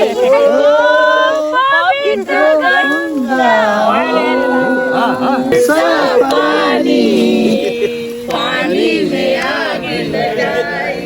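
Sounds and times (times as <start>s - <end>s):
group singing folk song: 0.0s - 11.0s.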